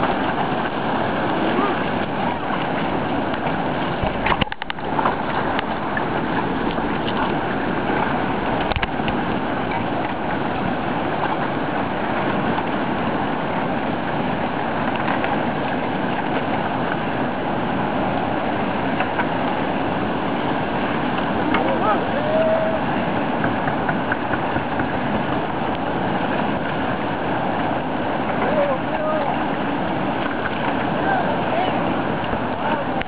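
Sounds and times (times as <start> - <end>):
whitewater rapid rushing: 0.0 - 33.0.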